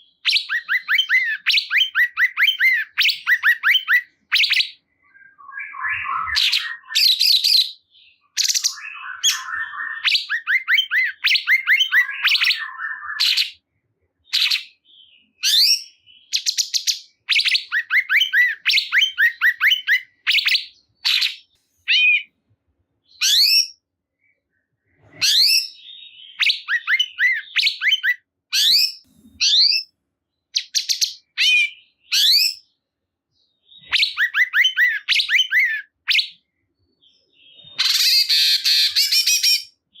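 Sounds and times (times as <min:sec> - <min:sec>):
songbird chirping and whistling: 0:00.0 - 0:13.6, 0:14.2 - 0:22.4, 0:23.0 - 0:32.8, 0:33.4 - 0:40.0.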